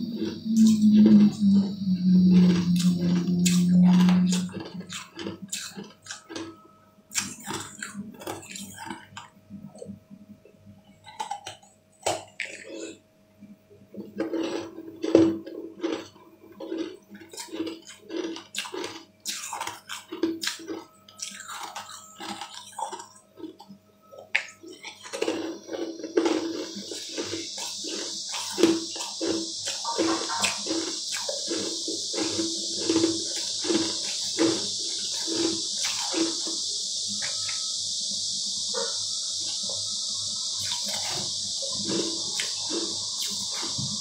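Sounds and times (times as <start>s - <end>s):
crunching and chewing ice: 0.0s - 9.9s, 11.0s - 13.0s, 13.9s - 37.6s, 40.5s - 44.0s.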